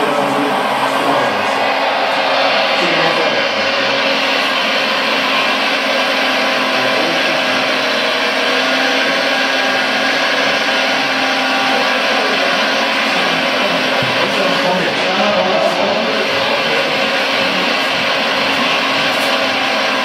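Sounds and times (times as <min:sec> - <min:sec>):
hydraulic pump whirr: 0:00.0 - 0:20.0
toy excavator engine sound: 0:00.0 - 0:20.0.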